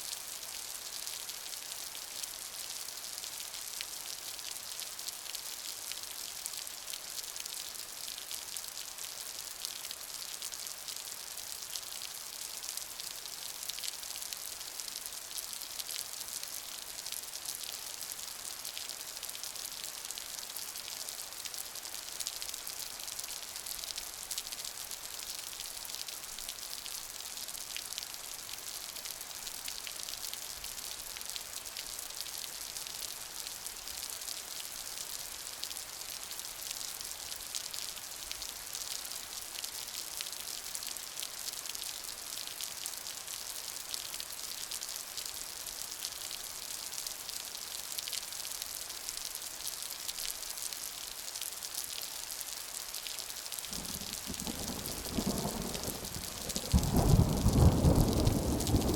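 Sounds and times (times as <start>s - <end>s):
rain hissing and pattering: 0.1s - 58.9s.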